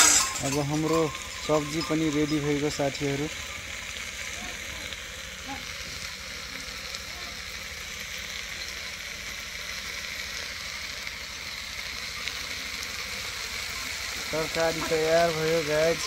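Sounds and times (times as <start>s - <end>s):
greens sizzling in oil: 0.0s - 16.0s.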